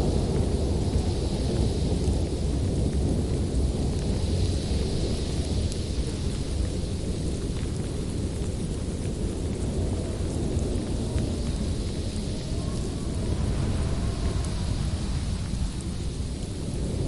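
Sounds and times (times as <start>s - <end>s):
faint hiss: 0.0s - 17.0s
low storm rumble: 0.0s - 17.0s.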